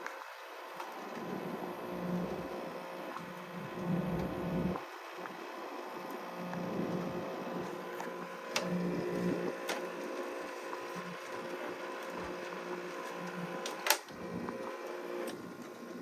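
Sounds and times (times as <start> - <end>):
air conditioner humming: 0.5 - 16.0.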